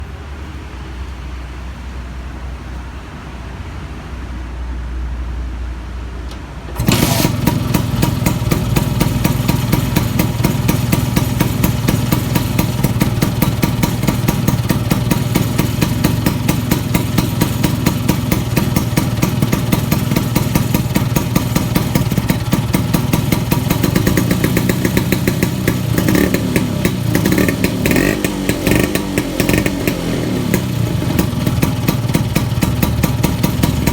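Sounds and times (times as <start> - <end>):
scooter engine idling and revving: 6.7 - 33.9.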